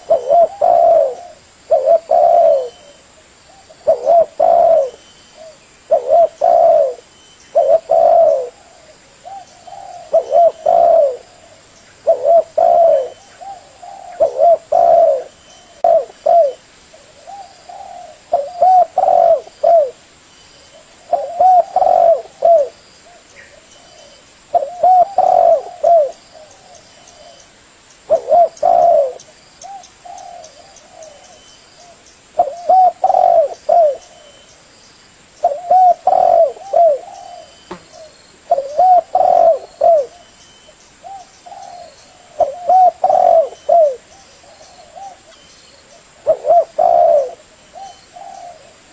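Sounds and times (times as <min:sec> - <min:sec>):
dove cooing: 0:00.0 - 0:20.0, 0:20.8 - 0:27.4, 0:28.1 - 0:34.4, 0:35.4 - 0:40.4, 0:41.0 - 0:48.9.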